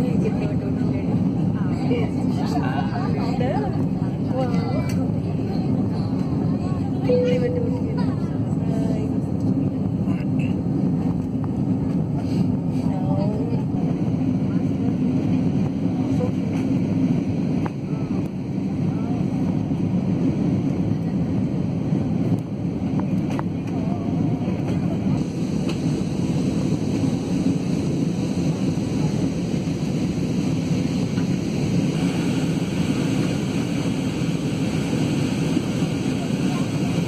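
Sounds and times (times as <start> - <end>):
jet engine cabin roar: 0.0 - 37.0.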